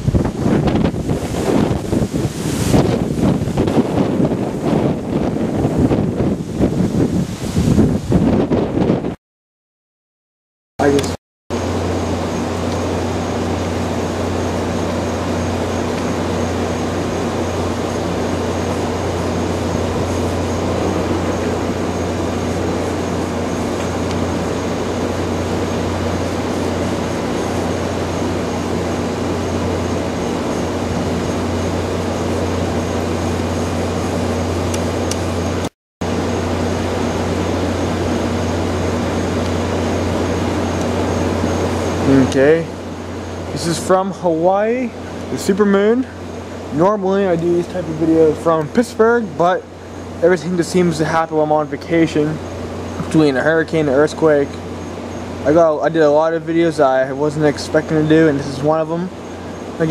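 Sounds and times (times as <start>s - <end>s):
machine hum with rushing whir: 0.0s - 9.2s, 10.8s - 59.9s
faint high whine: 10.8s - 59.9s.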